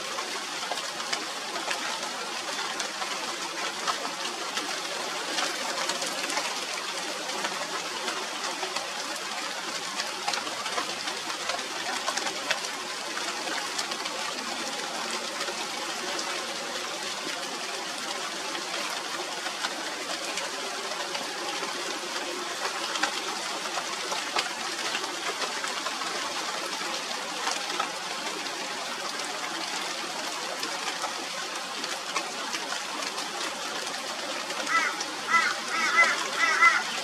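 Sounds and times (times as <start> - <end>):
rain falling on leaves: 0.0 - 37.0.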